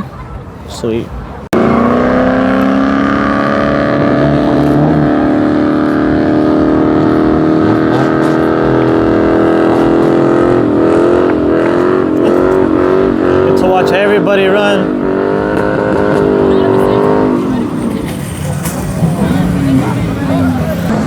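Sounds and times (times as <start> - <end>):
car engine revving: 1.4 - 21.0.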